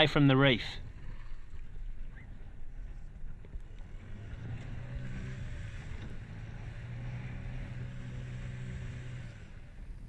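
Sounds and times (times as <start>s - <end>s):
outboard motor drone: 0.0s - 10.0s
wind: 0.0s - 10.0s.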